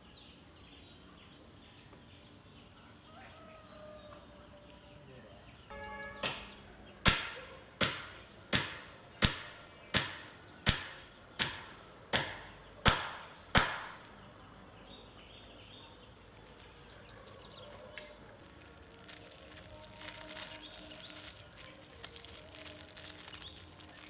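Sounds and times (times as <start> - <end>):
outdoor background: 0.0 - 24.0.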